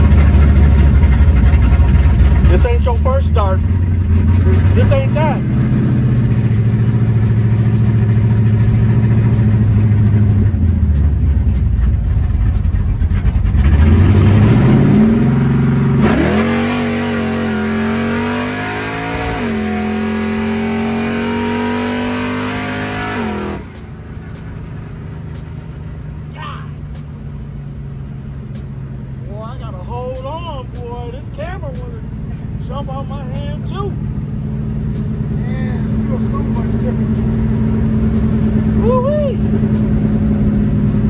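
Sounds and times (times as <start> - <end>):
car engine accelerating: 0.0 - 41.0.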